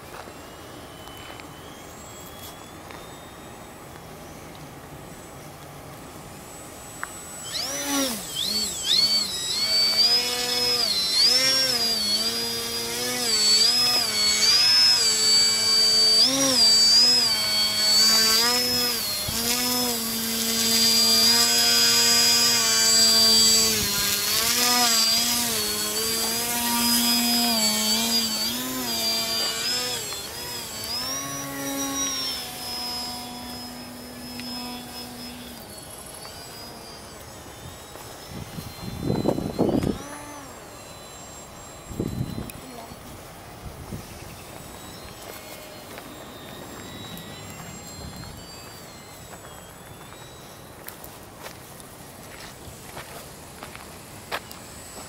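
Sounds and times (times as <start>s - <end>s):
model plane propeller whining: 0.0s - 55.0s.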